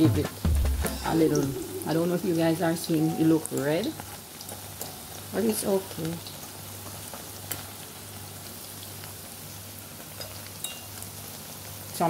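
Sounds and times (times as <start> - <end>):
food frying in hot oil: 1.2 - 12.0.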